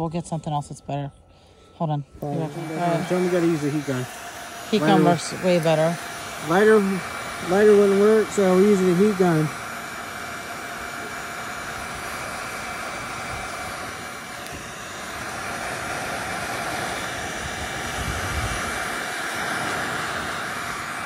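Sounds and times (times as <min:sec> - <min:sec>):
heat gun blowing air: 0:02.2 - 0:21.0.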